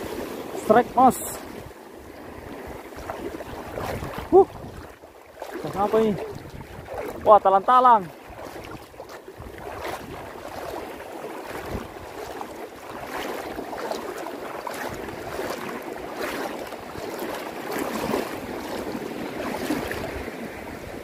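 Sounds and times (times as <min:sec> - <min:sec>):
small waves lapping and splashing: 0:00.0 - 0:21.0.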